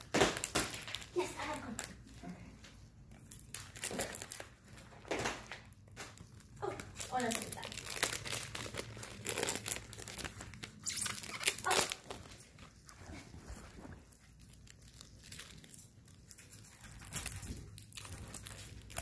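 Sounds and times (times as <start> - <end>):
cellophane crinkling: 0.0 - 19.0.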